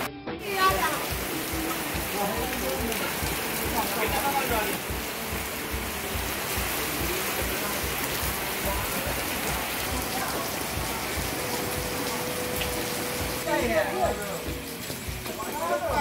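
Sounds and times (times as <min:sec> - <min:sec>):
steady rain hiss: 0:00.4 - 0:16.0.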